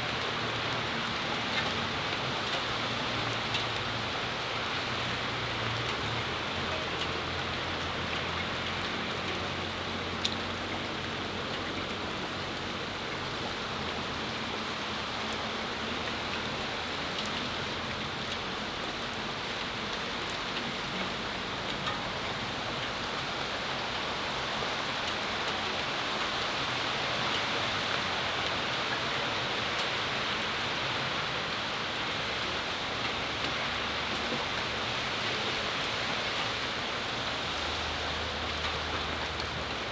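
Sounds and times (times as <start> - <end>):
rain falling on a patio: 0.0 - 39.9
sharp rain ticks: 0.0 - 39.9.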